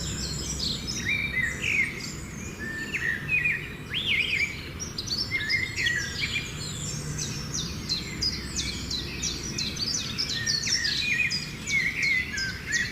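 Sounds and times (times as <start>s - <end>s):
low steady hum: 0.0s - 12.6s
birds chirping and singing: 0.0s - 12.9s.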